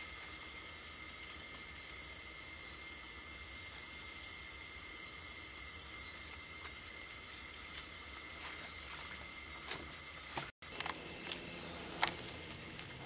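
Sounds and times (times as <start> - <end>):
night insect chorus: 0.0 - 13.0.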